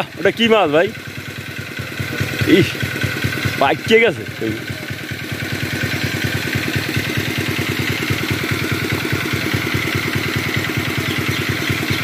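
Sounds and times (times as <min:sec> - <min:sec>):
pump engine chugging: 0:00.0 - 0:12.0.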